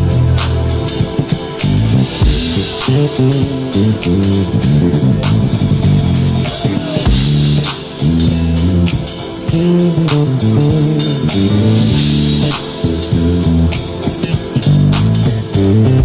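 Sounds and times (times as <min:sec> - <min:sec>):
drum kit with cymbals: 0:00.0 - 0:16.0
electric bass guitar melody: 0:00.0 - 0:16.0.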